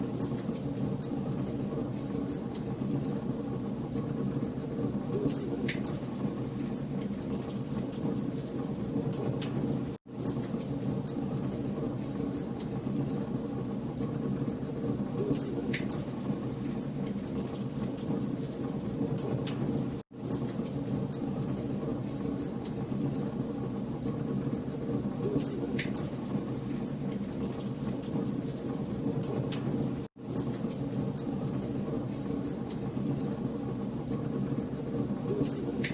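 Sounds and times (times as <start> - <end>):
low rumble of flames: 0.0 - 35.9.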